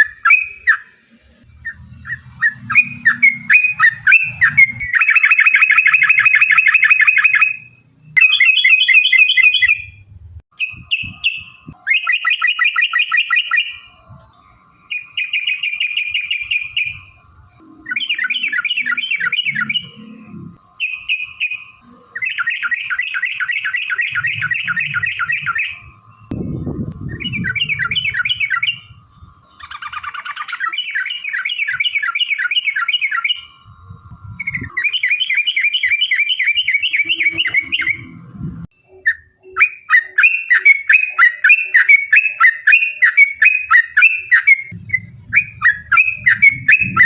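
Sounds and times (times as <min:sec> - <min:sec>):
bird singing rapid chattering runs: 0:01.6 - 0:10.0, 0:10.6 - 0:20.0, 0:20.6 - 0:38.2, 0:38.8 - 0:47.0.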